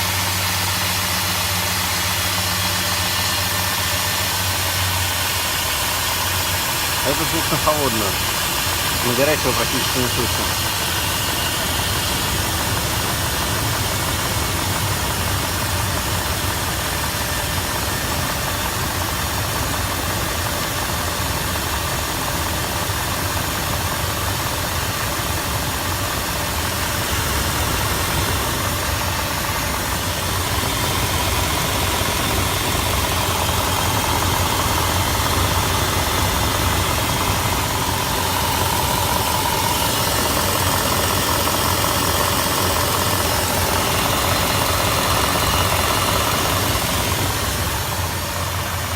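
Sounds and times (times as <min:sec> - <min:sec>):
engine idling with knock: 0:00.0 - 0:48.9.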